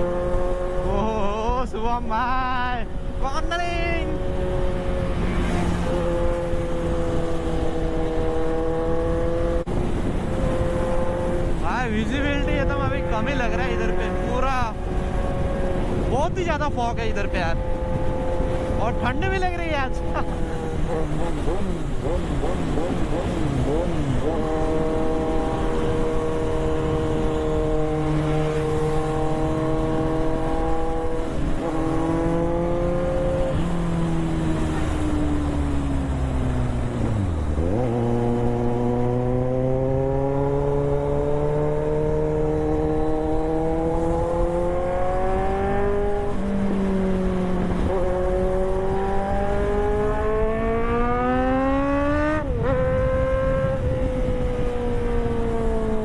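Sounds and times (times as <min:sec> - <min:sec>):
motorcycle engine shifting gears: 0:00.0 - 0:01.2, 0:04.1 - 0:16.3, 0:17.5 - 0:56.0
wind rush: 0:00.0 - 0:56.0.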